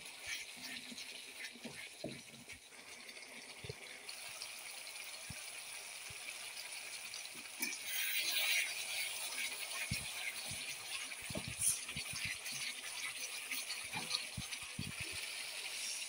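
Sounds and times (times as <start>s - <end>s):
curry boiling and bubbling: 0.0s - 16.0s.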